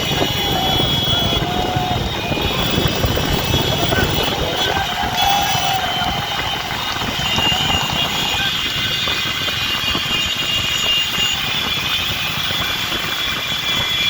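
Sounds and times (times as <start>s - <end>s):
engine rumble: 0.0s - 13.1s
rushing noise: 0.0s - 14.0s
thin high whine: 0.0s - 14.0s.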